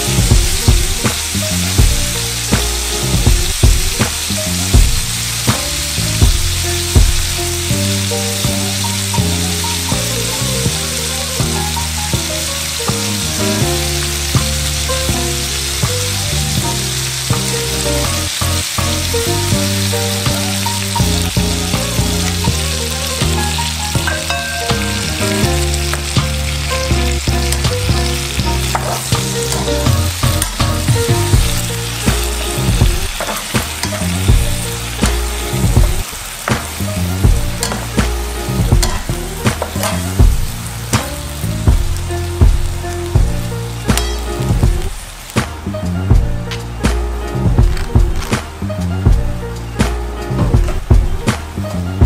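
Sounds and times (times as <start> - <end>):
meat sizzling in hot oil: 0.0 - 52.0.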